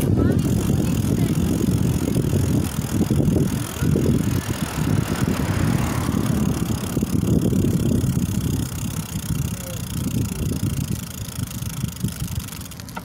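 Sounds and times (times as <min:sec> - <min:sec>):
bicycle rattling on asphalt: 0:00.0 - 0:13.0
wind buffeting microphone: 0:00.0 - 0:13.0.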